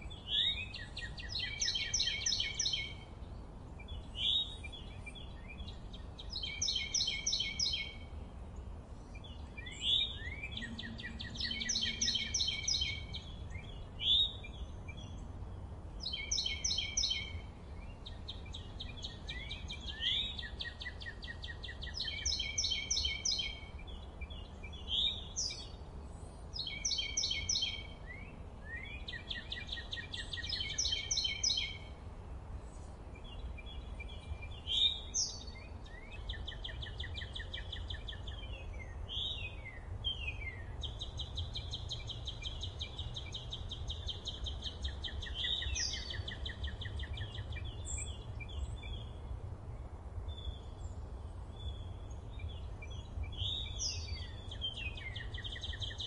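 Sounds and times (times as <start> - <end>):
songbird trilling: 0.0 - 3.1, 3.8 - 8.1, 9.0 - 15.3, 16.0 - 25.8, 26.6 - 31.9, 33.2 - 49.2, 51.6 - 56.0.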